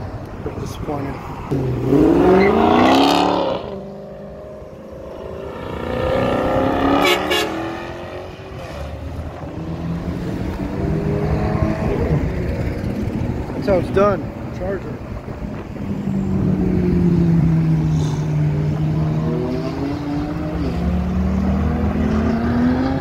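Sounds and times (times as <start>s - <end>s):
car engine accelerating hard: 1.5s - 14.0s, 15.1s - 23.0s.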